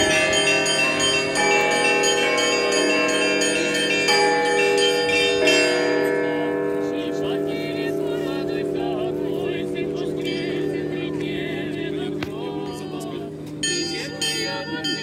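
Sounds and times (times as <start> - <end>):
small bells struck quickly: 0.0 - 13.0, 13.6 - 15.0
large bells ringing: 0.0 - 15.0.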